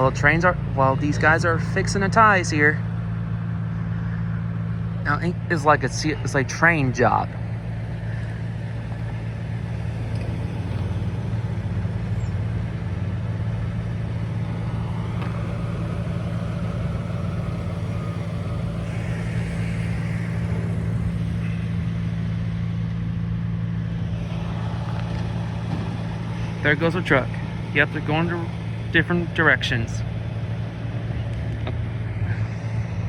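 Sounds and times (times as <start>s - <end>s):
engine idling: 0.0s - 33.0s
vehicle noise: 0.0s - 33.0s.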